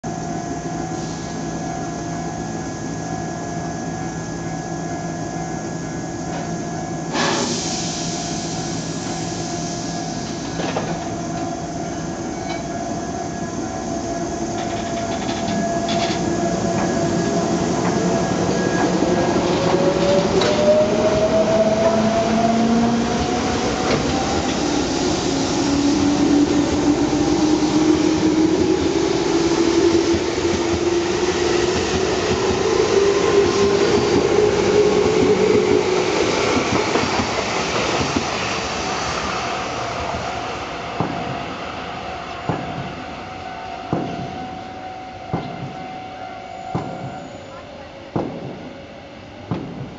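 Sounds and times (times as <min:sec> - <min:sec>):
electric train humming: 0:00.1 - 0:47.0.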